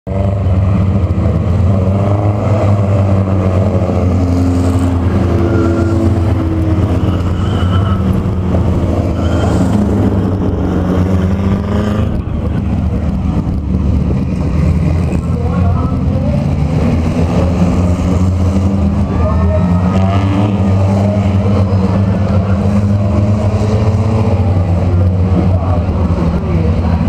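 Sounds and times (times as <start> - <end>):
stock car engines droning: 0.1 - 27.0.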